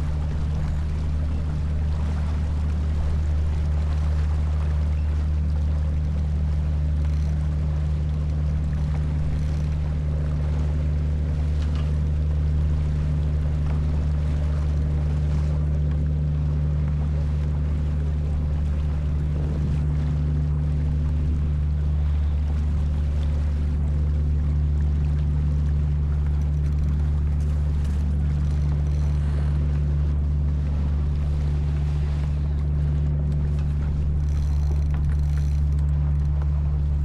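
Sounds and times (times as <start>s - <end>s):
boat engine humming: 0.0s - 37.0s
water noise: 0.0s - 37.0s.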